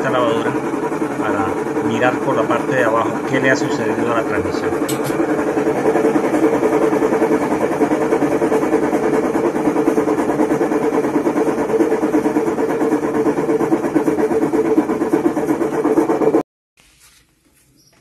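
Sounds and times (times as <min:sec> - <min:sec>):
washing machine spin mechanical noise: 0:00.0 - 0:16.4.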